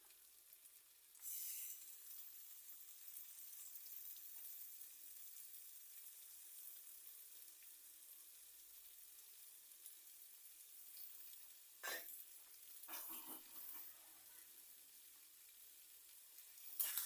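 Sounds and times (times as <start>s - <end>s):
onions sizzling in a pan: 0.0s - 17.0s.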